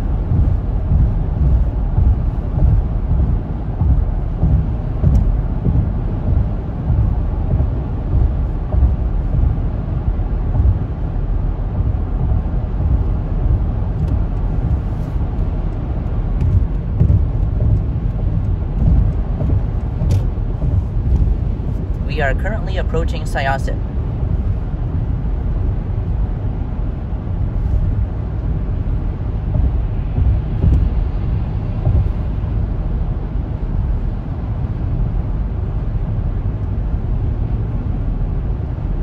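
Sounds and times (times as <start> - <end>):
road rumble inside car: 0.0 - 39.0.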